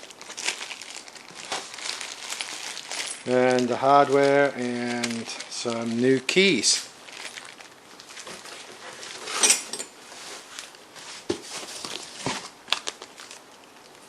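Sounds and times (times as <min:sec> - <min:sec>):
packaging rustle and jingle: 0:00.0 - 0:13.5.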